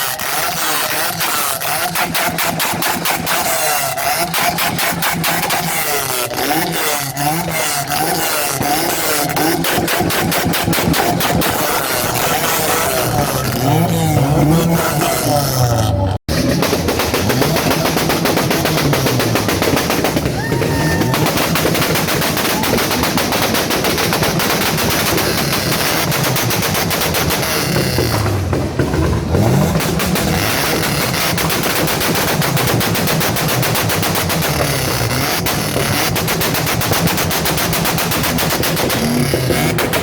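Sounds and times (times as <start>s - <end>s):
car engine revving: 0.0s - 40.0s
exhaust backfires crackling: 0.0s - 40.0s.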